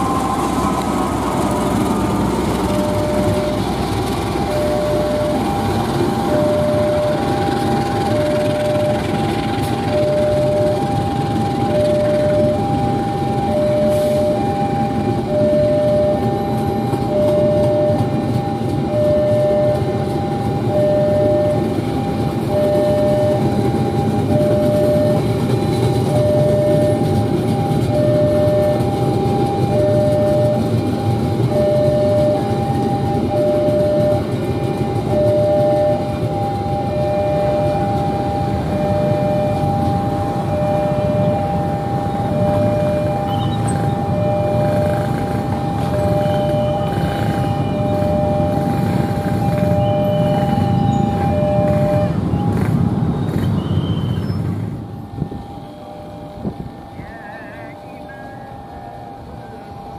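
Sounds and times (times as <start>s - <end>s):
train rumbling past: 0.0s - 59.9s
two-tone crossing alarm: 0.0s - 59.9s.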